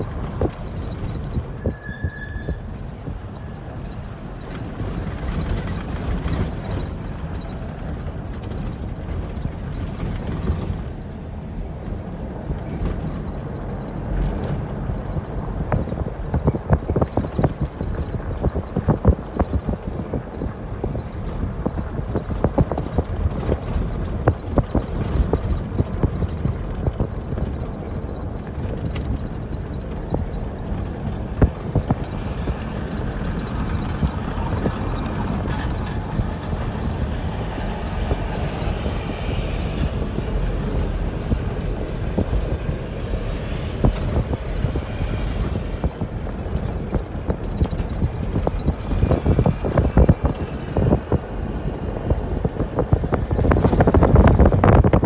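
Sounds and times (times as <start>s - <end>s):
tyres and engine rumble: 0.0s - 55.0s
vehicle knocks and rattles: 0.0s - 55.0s
wind buffeting microphone: 0.0s - 55.0s.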